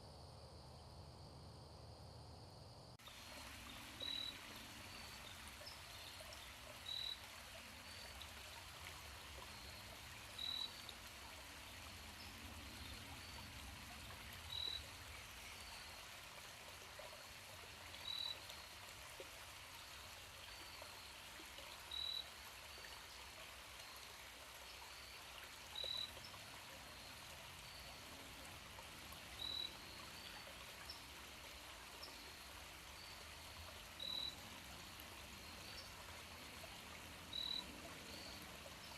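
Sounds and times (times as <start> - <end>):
flowing water: 3.0 - 38.9.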